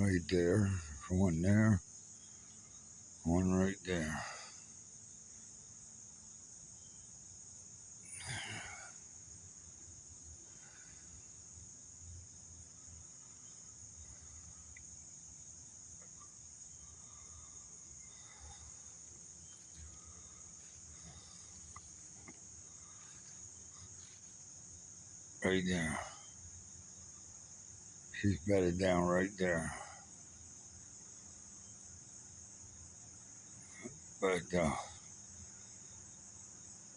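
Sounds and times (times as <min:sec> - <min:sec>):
high-pitched insect chorus: 0:00.0 - 0:36.9.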